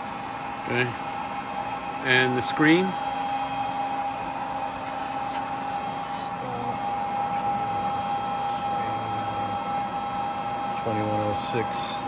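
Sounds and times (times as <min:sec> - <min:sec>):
hydraulic pump humming and whining: 0:00.0 - 0:12.0.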